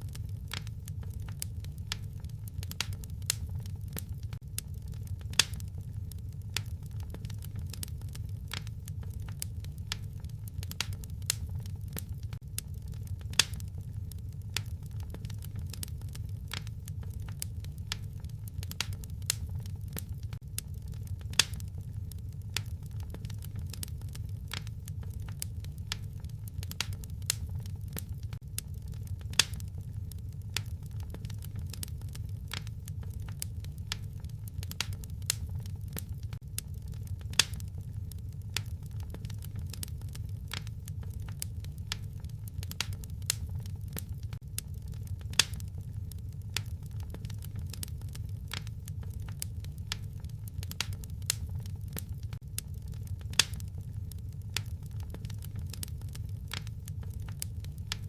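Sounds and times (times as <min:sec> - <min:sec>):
low rumble of burning: 0:00.0 - 0:58.0
wood fire popping and snapping: 0:00.0 - 0:58.0.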